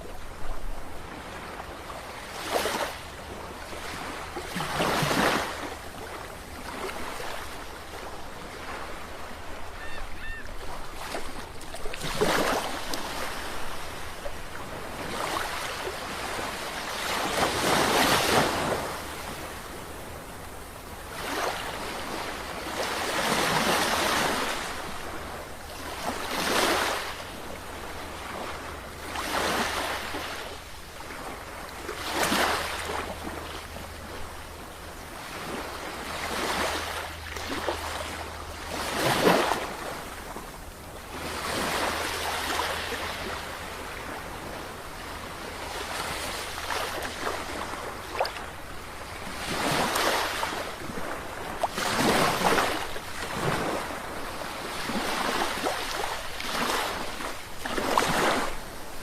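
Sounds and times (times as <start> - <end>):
sea waves breaking: 0.0 - 34.4, 35.0 - 59.0.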